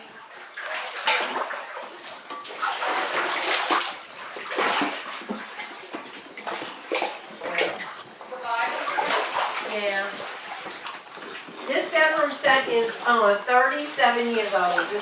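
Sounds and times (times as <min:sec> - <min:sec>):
floodwater sloshing and splashing: 0:00.0 - 0:15.0.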